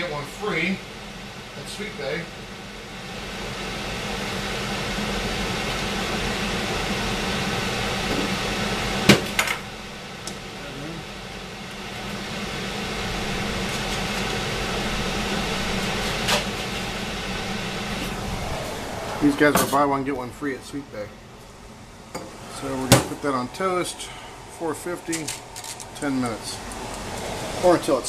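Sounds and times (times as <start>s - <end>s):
appliance fan humming: 0.0s - 28.0s.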